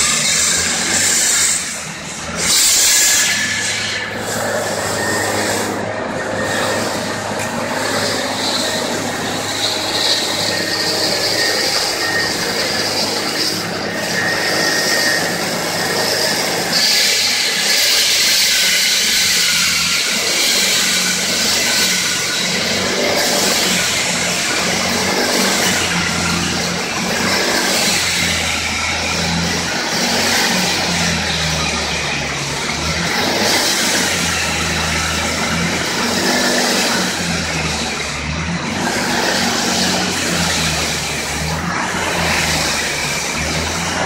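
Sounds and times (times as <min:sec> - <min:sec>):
engine running: 0:00.0 - 0:44.0
saw blade grinding whine: 0:00.0 - 0:44.0.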